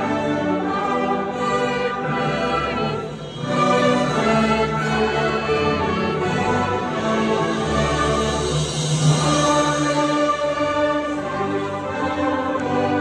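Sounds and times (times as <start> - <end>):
brass band playing: 0.0 - 13.0
choir singing: 0.0 - 13.0.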